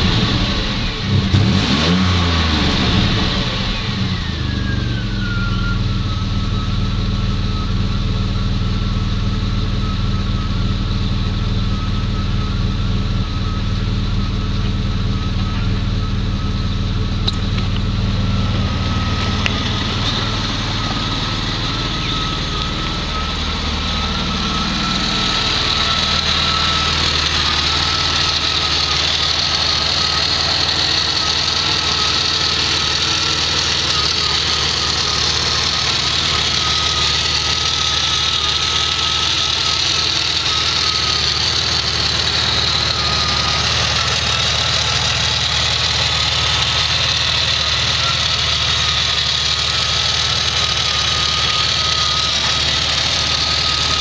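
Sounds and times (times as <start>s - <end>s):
car engine idling: 0.0s - 54.0s
thin engine whine: 0.0s - 54.0s.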